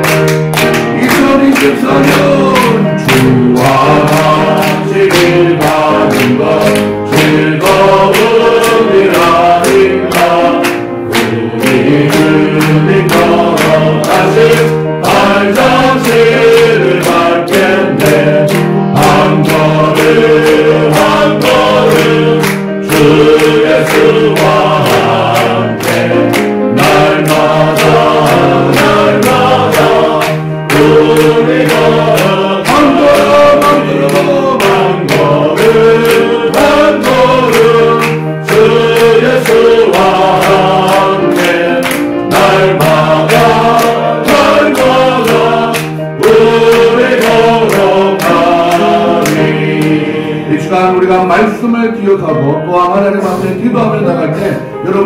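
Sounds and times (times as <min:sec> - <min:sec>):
people clapping on the beat: 0:00.0 - 0:50.4
congregation singing a hymn: 0:00.0 - 0:52.5.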